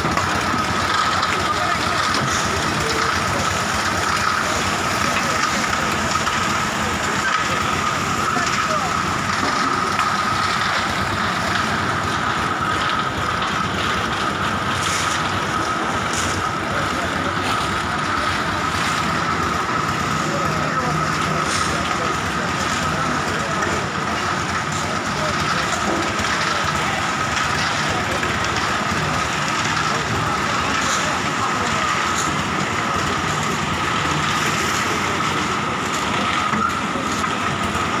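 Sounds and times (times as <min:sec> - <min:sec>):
construction machinery running: 0:00.0 - 0:38.0.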